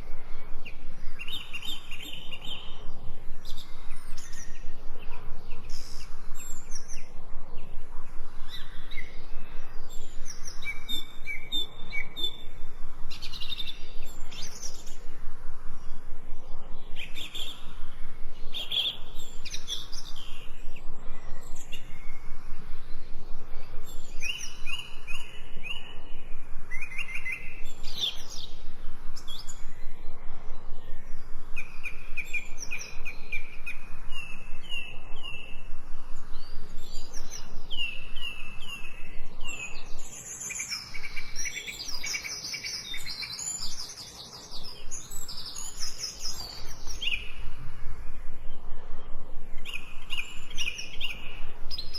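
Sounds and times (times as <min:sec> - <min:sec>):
songbirds chirping and singing: 0:00.0 - 0:51.9.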